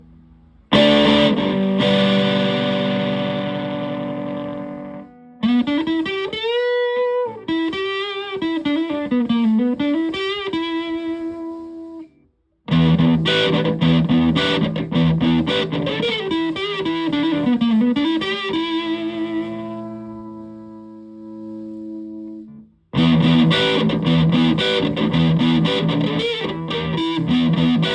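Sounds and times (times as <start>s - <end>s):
fuzz electric guitar lead: 0.7s - 12.0s, 12.7s - 27.9s.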